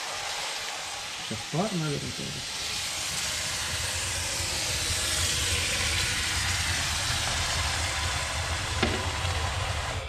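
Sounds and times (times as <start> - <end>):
water hissing and sizzling in pot: 0.0 - 10.0.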